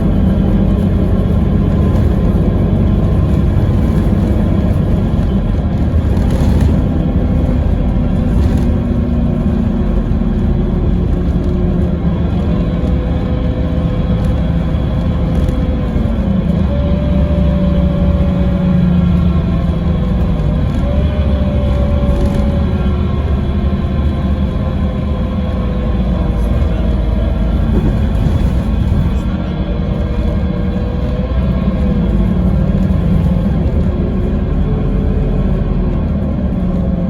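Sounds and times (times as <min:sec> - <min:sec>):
bus diesel engine rumbling: 0:00.0 - 0:37.0.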